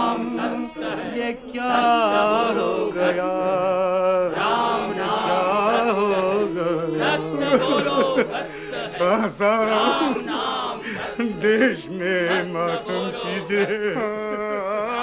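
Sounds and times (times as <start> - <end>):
male voices chanting: 0.0 - 15.0.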